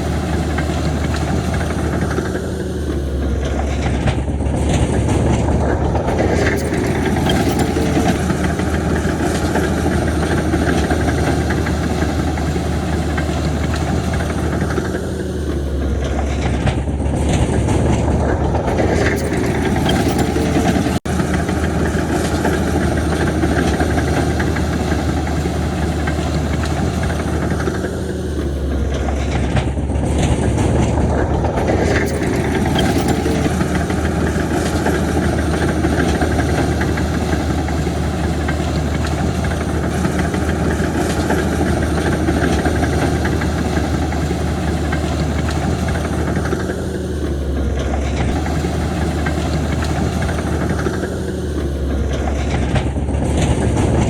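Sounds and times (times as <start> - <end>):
diesel construction machinery humming: 0.0 - 54.0.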